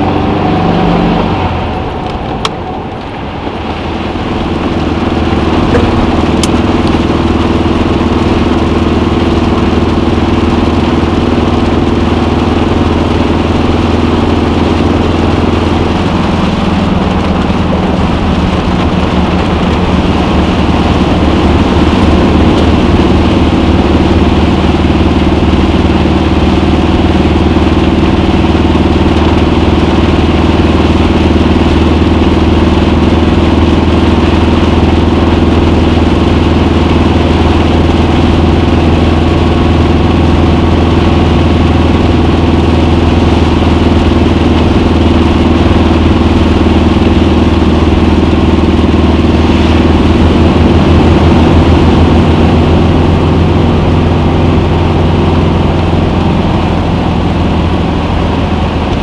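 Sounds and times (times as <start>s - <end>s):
car engine running from inside cabin: 0.0s - 59.0s.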